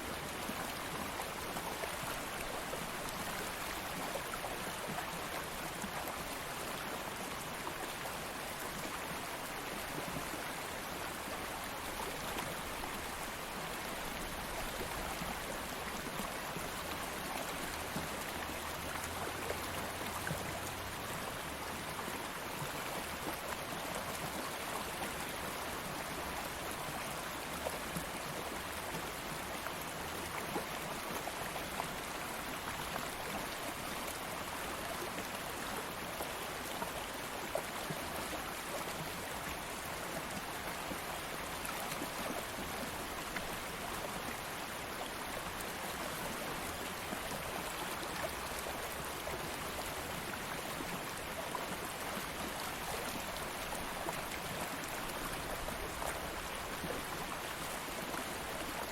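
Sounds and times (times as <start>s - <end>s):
stream of flowing water: 0.0s - 58.9s.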